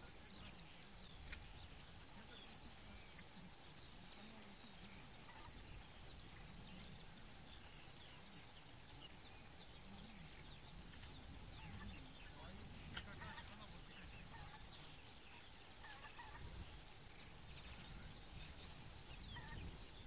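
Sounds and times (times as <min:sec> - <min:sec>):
low background hiss: 0:00.0 - 0:20.0
small birds chirping: 0:00.0 - 0:20.0.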